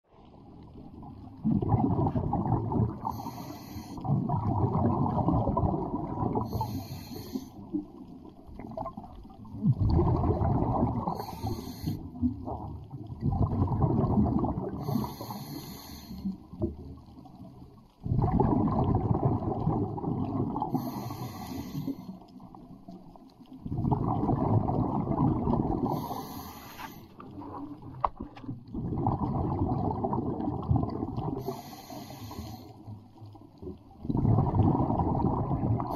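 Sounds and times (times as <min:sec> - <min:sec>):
gurgling bubbles underwater: 0:00.1 - 0:35.9.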